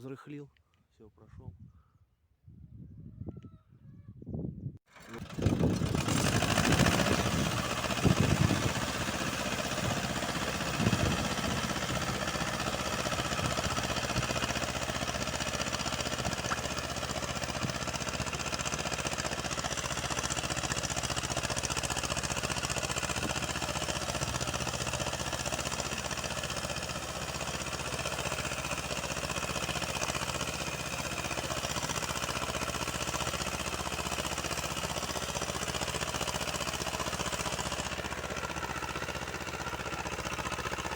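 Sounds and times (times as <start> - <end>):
engine knocks: 4.9 - 40.9
tractor engine running: 4.9 - 40.9.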